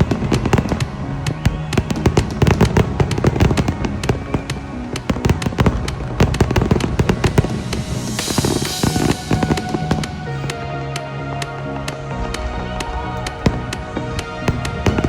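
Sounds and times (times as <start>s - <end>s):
fireworks exploding: 0.0s - 15.0s
music playing: 0.0s - 15.0s.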